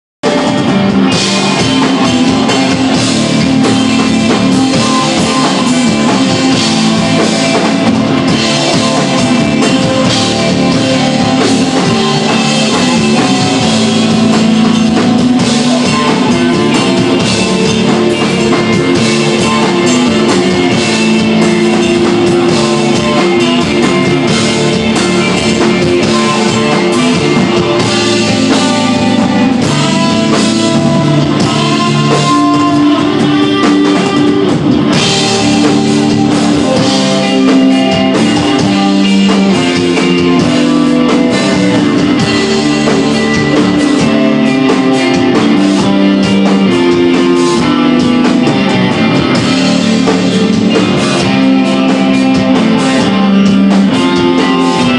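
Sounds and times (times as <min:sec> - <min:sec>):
drum kit: 0:00.2 - 0:54.9
electric guitar: 0:00.2 - 0:54.9.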